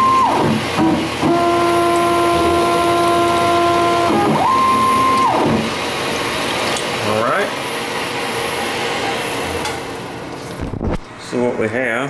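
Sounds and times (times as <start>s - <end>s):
lathe spindle running: 0.0s - 10.3s
stepper motors whining: 0.0s - 10.4s.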